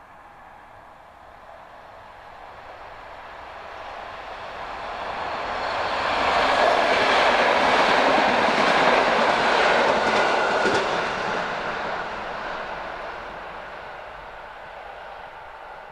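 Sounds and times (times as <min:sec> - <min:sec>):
diesel railcar passing: 0:00.0 - 0:15.9.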